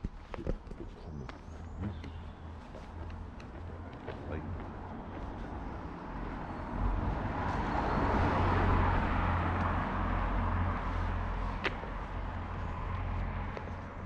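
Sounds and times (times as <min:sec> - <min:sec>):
car passing: 0:01.6 - 0:14.0.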